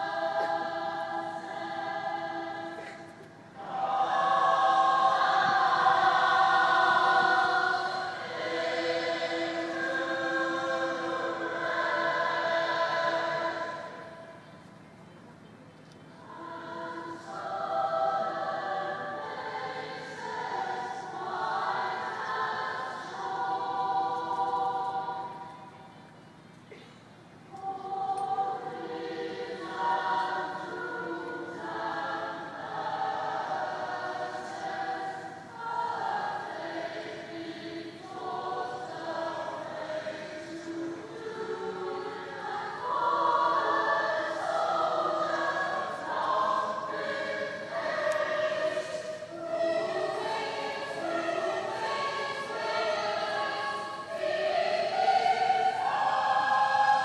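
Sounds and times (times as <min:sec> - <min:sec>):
large choir singing: 0:00.0 - 0:15.3, 0:16.1 - 0:57.0.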